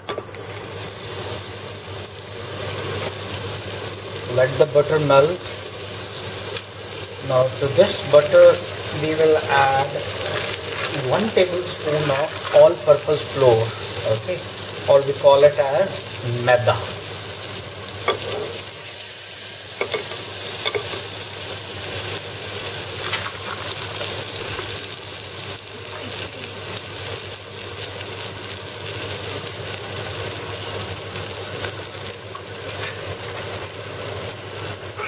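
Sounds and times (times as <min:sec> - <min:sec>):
butter sizzling in saucepan: 0:00.0 - 0:35.0.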